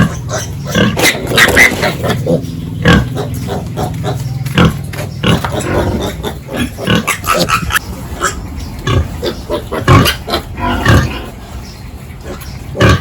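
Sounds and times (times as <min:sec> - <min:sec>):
pigs grunting: 0:00.0 - 0:13.0.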